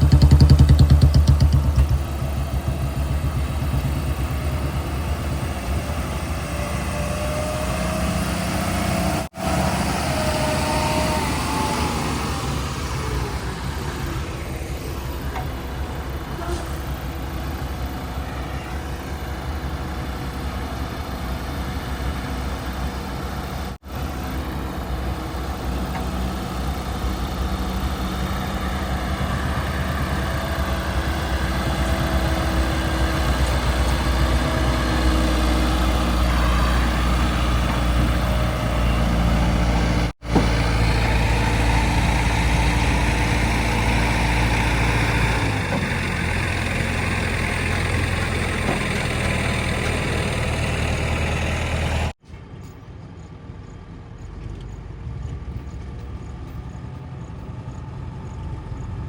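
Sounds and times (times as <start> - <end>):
heavy diesel engine running: 0.0 - 52.2, 53.4 - 59.0.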